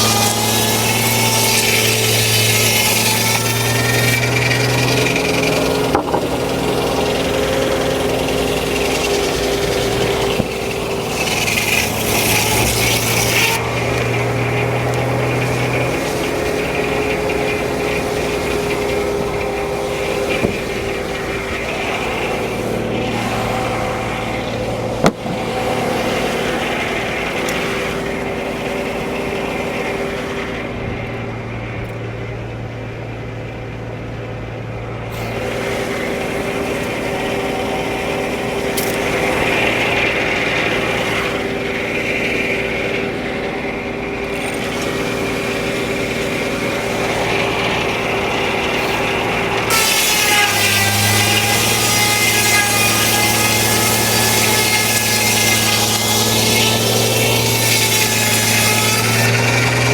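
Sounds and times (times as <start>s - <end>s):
saw blade cutting log: 0.0s - 31.2s, 35.0s - 59.9s
sawmill mechanical drone: 0.0s - 59.9s.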